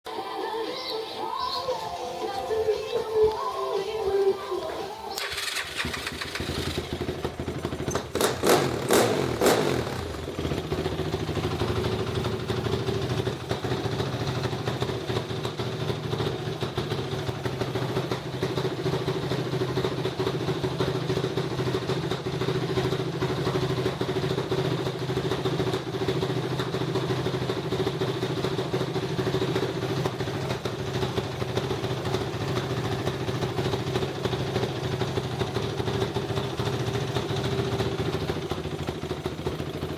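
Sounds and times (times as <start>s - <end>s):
motorcycle engine idling: 2.5s - 39.9s.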